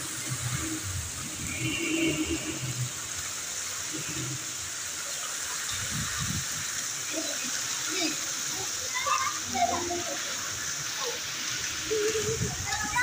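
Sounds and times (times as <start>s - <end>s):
heavy rain on concrete roof: 0.0s - 13.0s.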